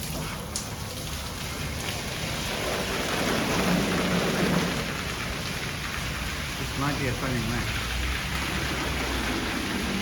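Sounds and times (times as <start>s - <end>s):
car wash spraying water: 0.0s - 10.0s.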